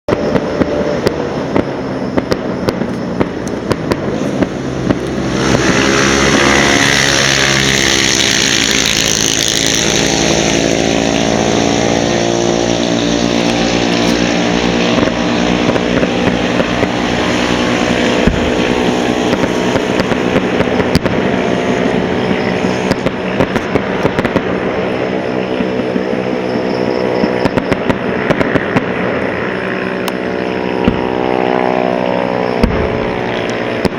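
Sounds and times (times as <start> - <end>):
fireworks spraying hiss: 0.1 - 12.0, 12.6 - 31.4
engine-like drone: 0.1 - 33.9
fireworks crackling: 0.1 - 33.9.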